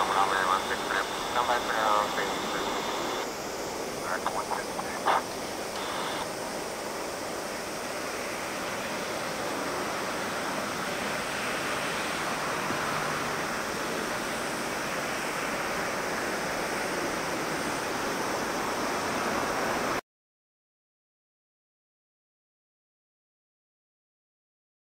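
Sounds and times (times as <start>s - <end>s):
distant jet engine roar: 0.0s - 20.0s.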